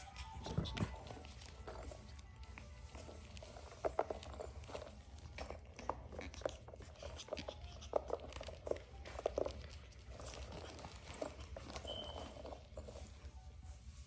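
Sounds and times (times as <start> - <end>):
puppies gnawing rubber ball: 0.0 - 13.5
paws scrabbling on mat: 0.0 - 14.0.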